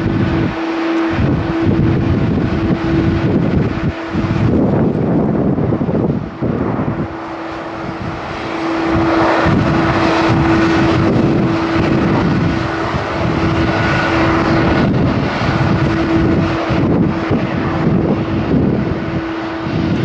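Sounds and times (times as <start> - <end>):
constant humming tone: 0.0 - 20.0
jet engines running: 0.0 - 20.0.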